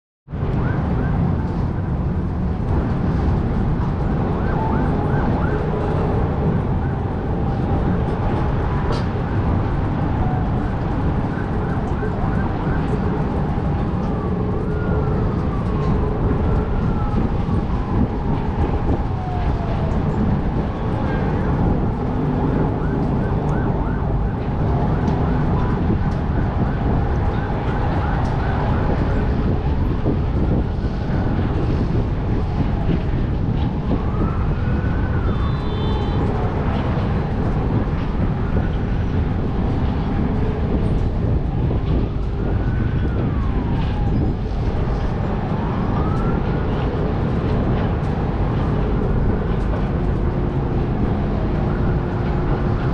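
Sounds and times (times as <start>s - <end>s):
distant city traffic hum: 0.3s - 52.9s
emergency siren wailing: 0.3s - 52.9s
wind buffeting microphone: 0.3s - 52.9s.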